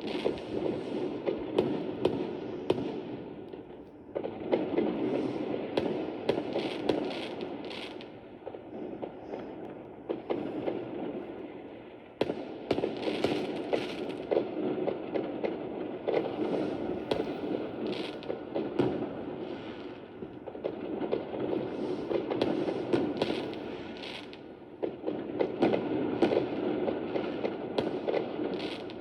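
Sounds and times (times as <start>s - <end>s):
fireworks popping and banging: 0.0s - 29.0s.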